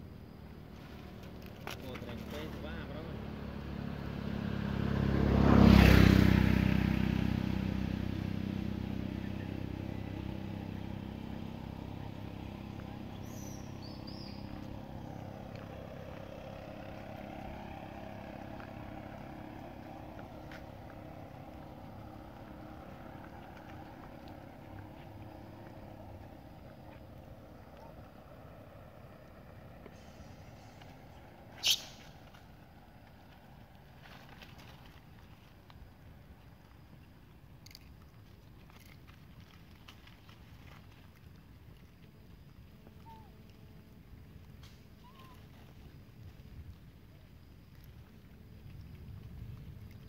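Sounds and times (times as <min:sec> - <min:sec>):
vehicle passing by: 0:00.0 - 0:50.0.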